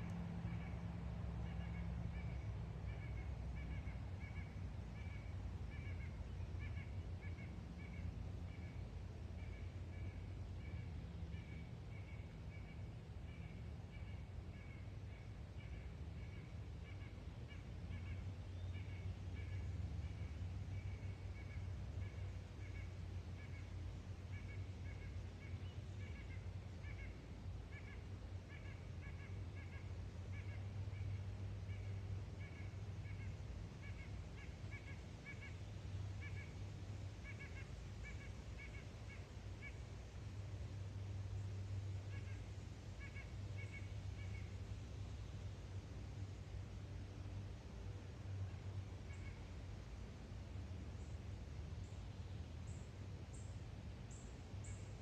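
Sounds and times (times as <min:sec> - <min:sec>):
low steady rumble: 0:00.0 - 0:55.0.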